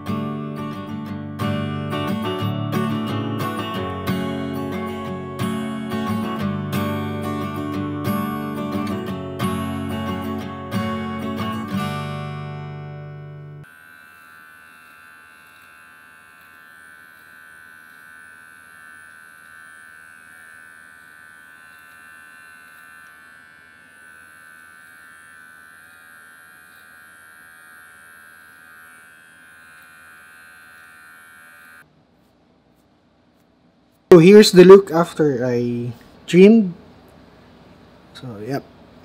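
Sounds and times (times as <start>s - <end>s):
electric beard clipper buzzing: 0.0s - 31.9s.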